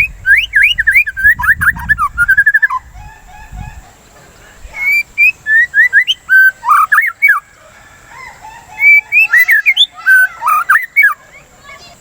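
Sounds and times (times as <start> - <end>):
bird whistling song: 0.0 - 4.0, 4.7 - 7.6, 8.2 - 11.5.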